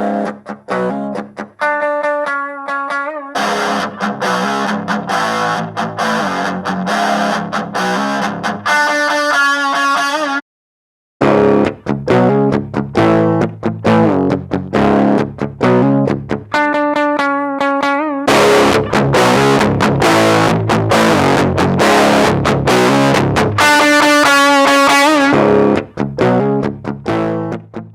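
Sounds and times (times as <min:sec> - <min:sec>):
overdriven electric guitar: 0:00.0 - 0:10.4, 0:11.2 - 0:27.9.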